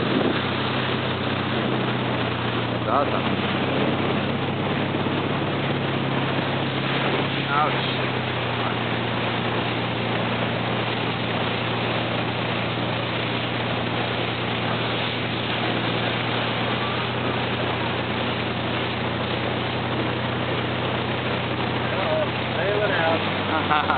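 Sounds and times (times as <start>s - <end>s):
motorboat engine humming: 0.0s - 23.9s
water rushing: 0.0s - 23.9s
wind: 0.0s - 23.9s.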